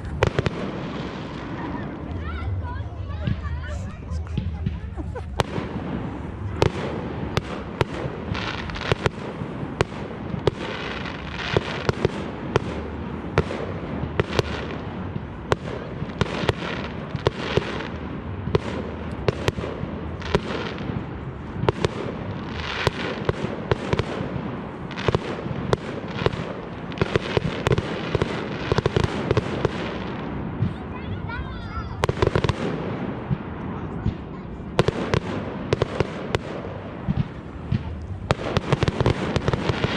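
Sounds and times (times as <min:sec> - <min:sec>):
fireworks banging: 0:00.0 - 0:39.9
fireworks crackling: 0:00.0 - 0:39.9.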